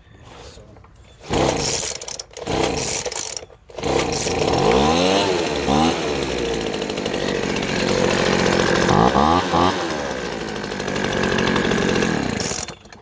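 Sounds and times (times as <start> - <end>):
leaf blower engine revving: 1.2 - 13.0.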